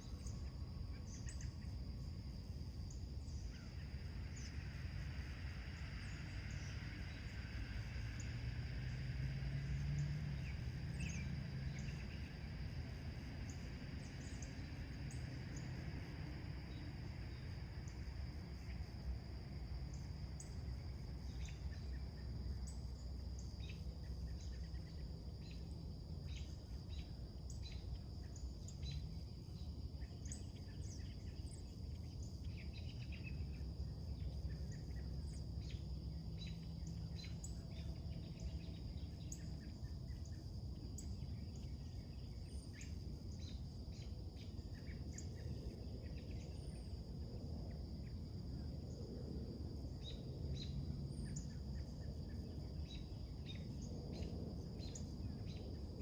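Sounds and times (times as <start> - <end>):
high insect trill: 0.0 - 56.0
low steady rumble: 0.0 - 56.0.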